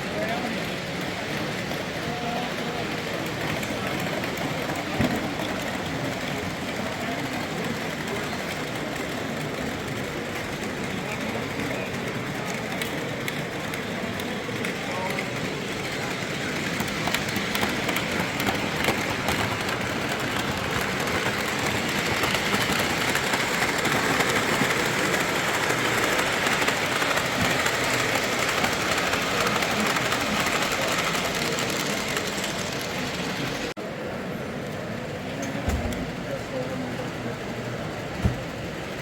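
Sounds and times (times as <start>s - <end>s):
hall crowd din: 0.0s - 39.0s
model train rolling: 0.0s - 39.0s.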